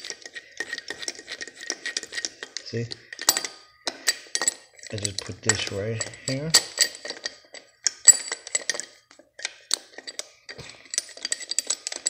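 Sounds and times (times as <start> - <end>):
steel parts clinking and rattling: 0.0 - 12.0.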